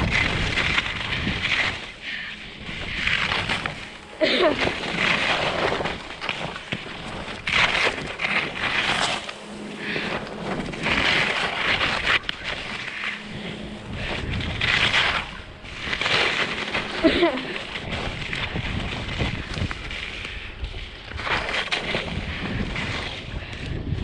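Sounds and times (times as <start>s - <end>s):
skis swishing over snow: 0.0s - 24.0s
wind buffeting microphone: 0.0s - 24.0s.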